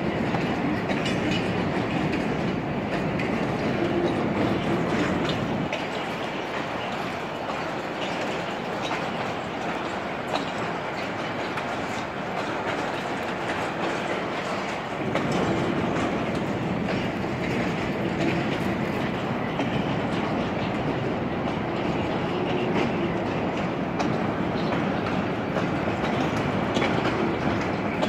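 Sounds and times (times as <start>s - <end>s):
freight train rumbling past: 0.0s - 28.0s
wheels clicking over rails: 0.0s - 28.0s.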